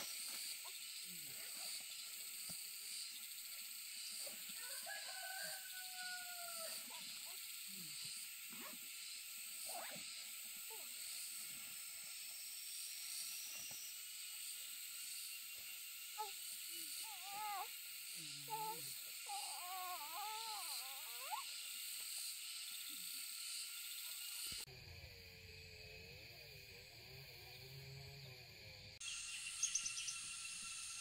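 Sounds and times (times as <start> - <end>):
high-pitched outdoor hiss: 0.0 - 31.0.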